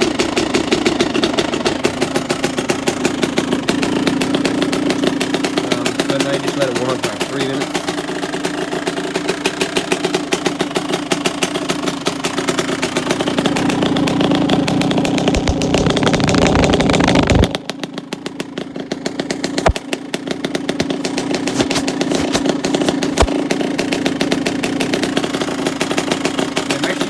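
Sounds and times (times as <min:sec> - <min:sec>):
dirt bike engine idling: 0:00.0 - 0:27.0.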